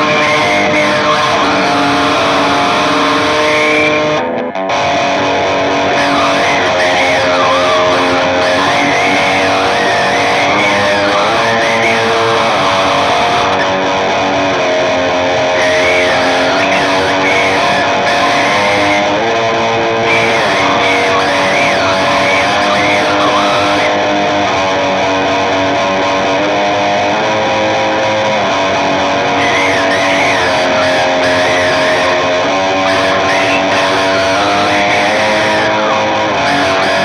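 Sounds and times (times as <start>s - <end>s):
electric guitar music: 0.0s - 37.0s.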